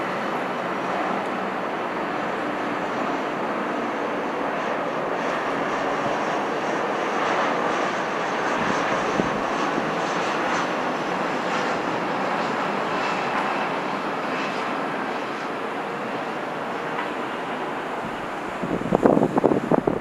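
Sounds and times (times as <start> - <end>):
airliner jet engines roaring: 0.0 - 20.0.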